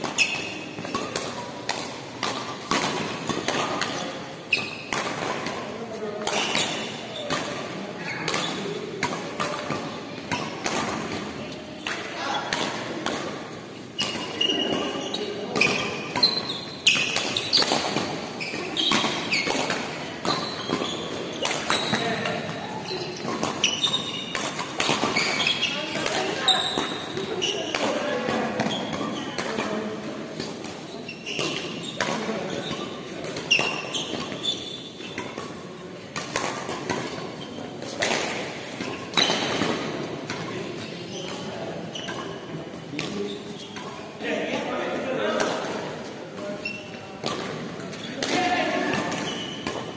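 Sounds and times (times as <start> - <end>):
rackets striking shuttlecock: 0.0 - 49.9
shoes squeaking on court: 0.0 - 49.9.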